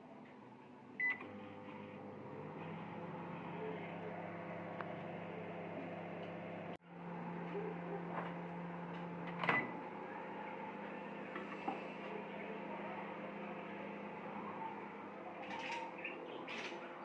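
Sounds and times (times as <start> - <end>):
microwave oven humming: 0.1 - 17.0.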